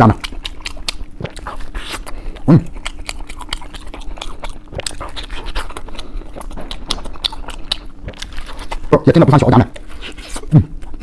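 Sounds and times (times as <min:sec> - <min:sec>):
chewing with mouth clicks and crunches: 0:00.0 - 0:11.0.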